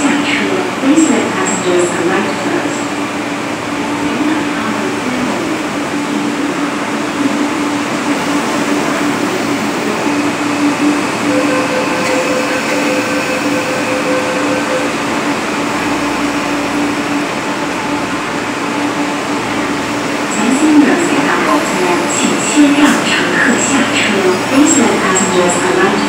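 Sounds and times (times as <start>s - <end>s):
electric train running: 0.7s - 26.0s.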